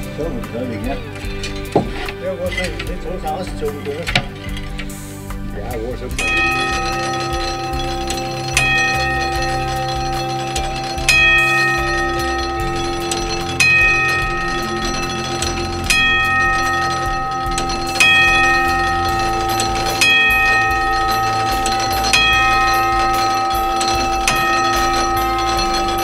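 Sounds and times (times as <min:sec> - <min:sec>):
clock bell striking: 0:00.0 - 0:26.0.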